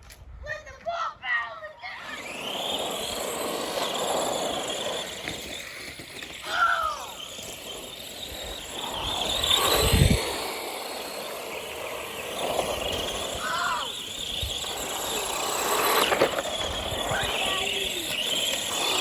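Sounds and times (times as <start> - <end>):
rc car motors whining: 1.8 - 19.0.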